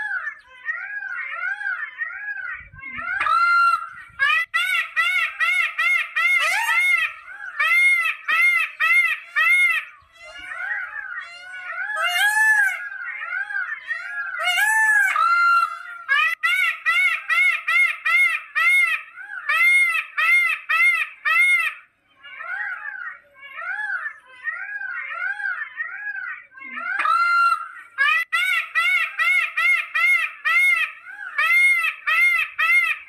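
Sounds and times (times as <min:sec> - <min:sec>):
peafowl calling: 0:00.0 - 0:33.0.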